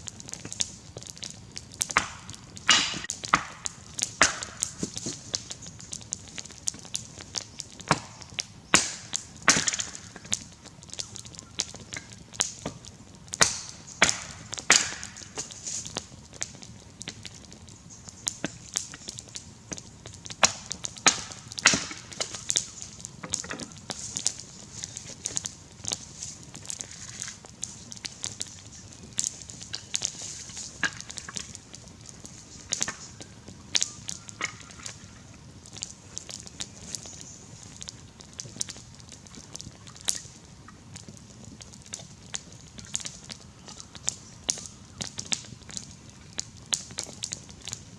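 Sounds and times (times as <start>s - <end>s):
campfire crackling and popping: 0.0s - 47.9s
faint ticks and clicks: 0.0s - 47.9s.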